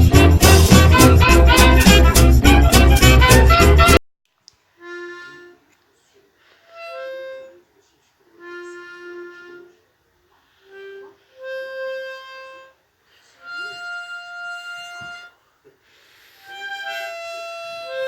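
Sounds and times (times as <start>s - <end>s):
wind instrument slow melody: 0.0s - 4.0s, 4.8s - 5.8s, 6.6s - 15.5s, 16.3s - 18.0s.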